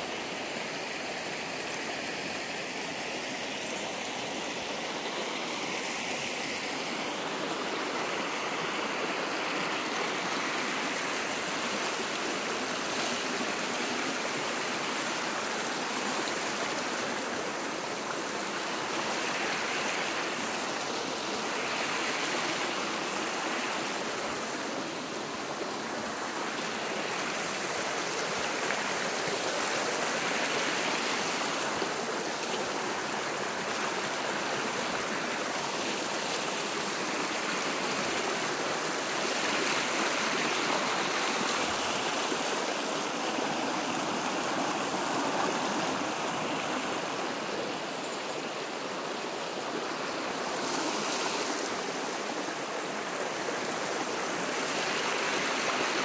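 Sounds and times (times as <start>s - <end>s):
creek water running over rocks: 0.0s - 56.0s.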